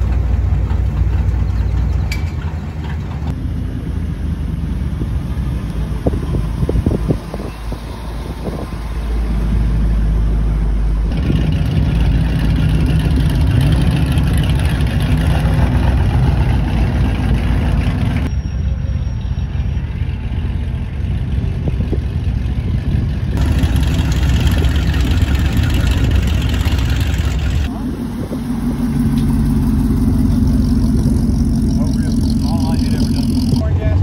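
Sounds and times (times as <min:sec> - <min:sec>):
car engines idling and driving by: 0:00.0 - 0:34.0.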